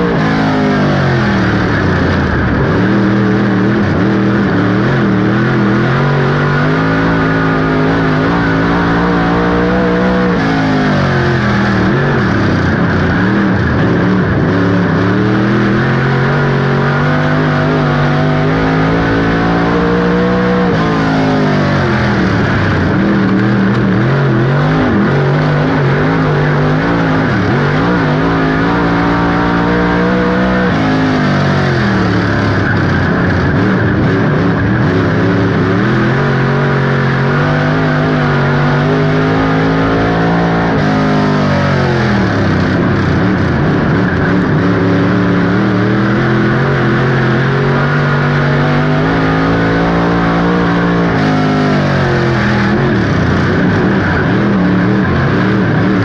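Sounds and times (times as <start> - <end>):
race car engine rising and falling: 0.0 - 56.0.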